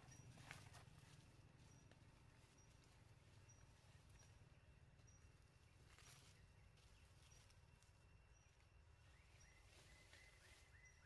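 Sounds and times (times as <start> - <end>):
faint forest ambience: 0.0 - 11.0.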